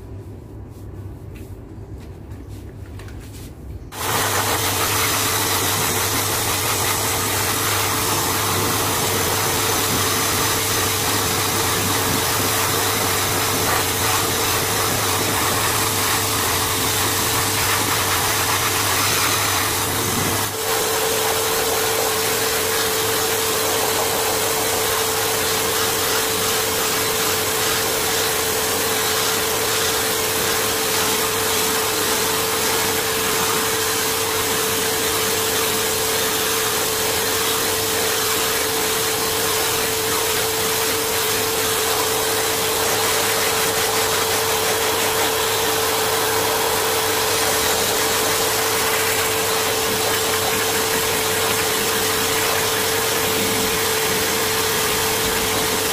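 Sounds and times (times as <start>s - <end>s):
electric fan running: 0.0s - 55.9s.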